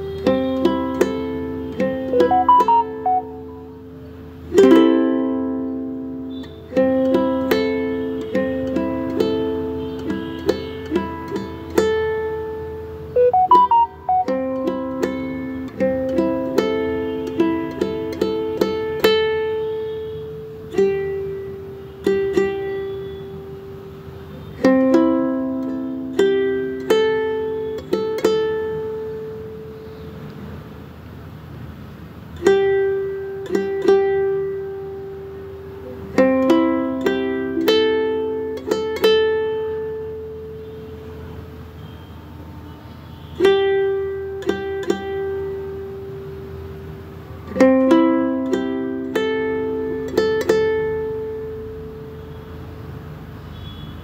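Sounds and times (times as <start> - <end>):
slow plucked string melody: 0.0 - 23.8, 24.6 - 29.9, 32.4 - 40.6, 43.4 - 52.2.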